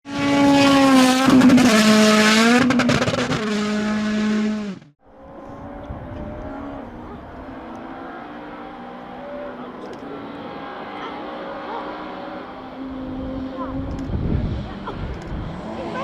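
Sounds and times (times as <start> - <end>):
distant rally car engine: 0.1 - 16.0
rally car engine passing: 0.1 - 16.0.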